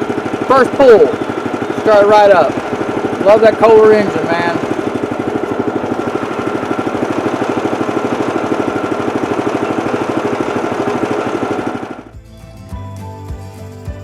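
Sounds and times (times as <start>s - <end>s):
gas engine idling: 0.0s - 12.1s.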